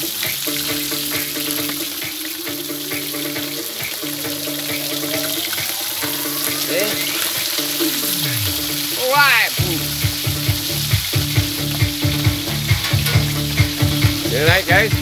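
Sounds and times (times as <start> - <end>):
background music: 0.0 - 15.0
fish frying in oil: 0.0 - 15.0.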